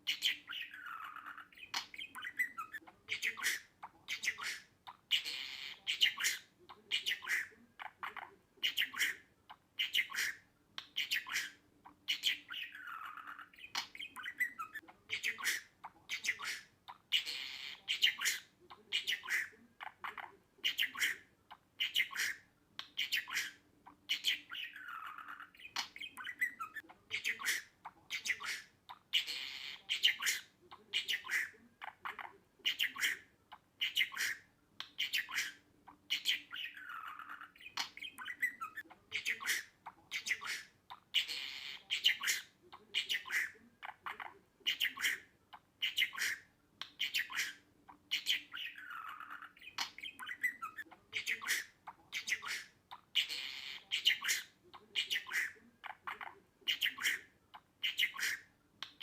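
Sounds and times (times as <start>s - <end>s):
budgerigar chattering: 0.0s - 59.0s.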